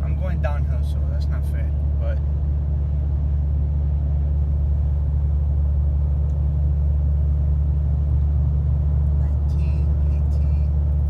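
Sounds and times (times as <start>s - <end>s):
diesel engine rumble: 0.0s - 11.0s
road noise: 0.0s - 11.0s.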